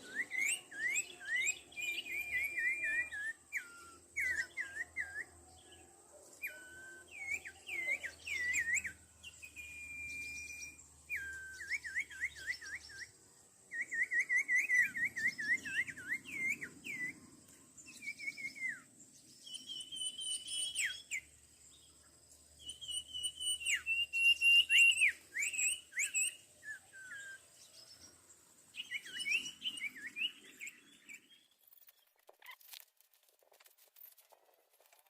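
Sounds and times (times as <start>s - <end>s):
birds chirping and trilling: 0.0s - 32.7s.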